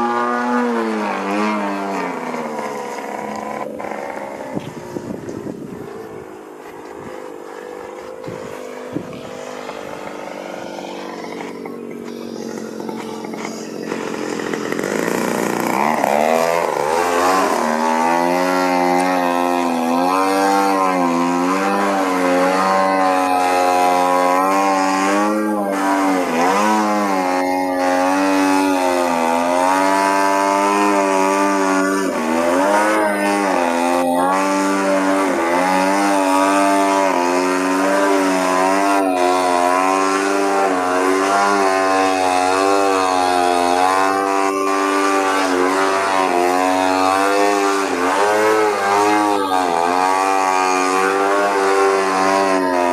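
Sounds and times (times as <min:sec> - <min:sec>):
model airplane engine and propeller: 0:00.0 - 0:52.9.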